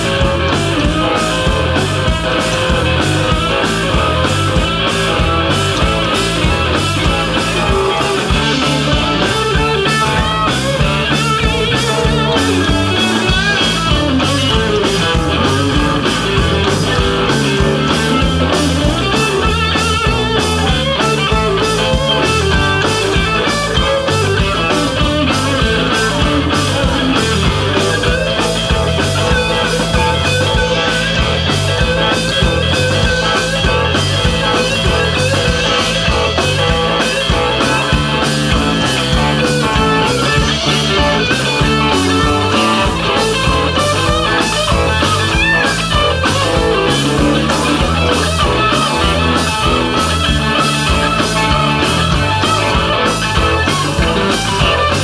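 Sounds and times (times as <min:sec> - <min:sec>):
bass guitar: 0:00.0 - 0:55.0
drum kit beat: 0:00.0 - 0:55.0
electric guitars: 0:00.0 - 0:55.0.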